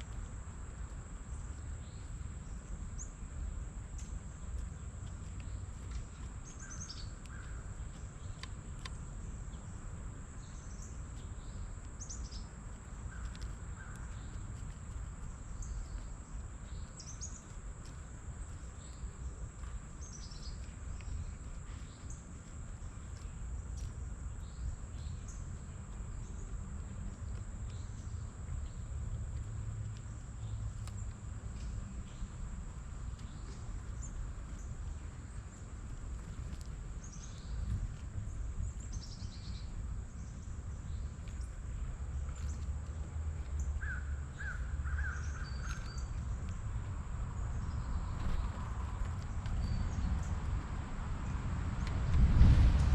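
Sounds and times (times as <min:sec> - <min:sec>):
small birds chirping: 0:00.0 - 0:52.0
steady low rumble: 0:00.0 - 0:52.9.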